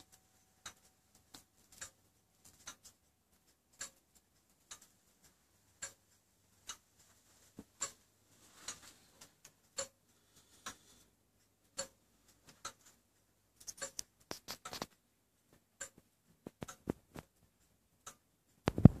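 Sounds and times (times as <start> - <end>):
clock ticking faintly: 0.0 - 19.0.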